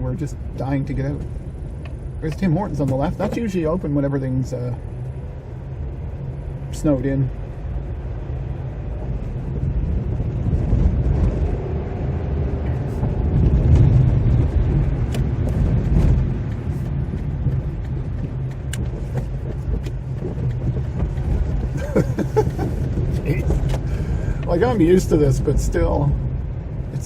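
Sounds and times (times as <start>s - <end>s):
car driving rumble from inside: 0.0s - 27.0s.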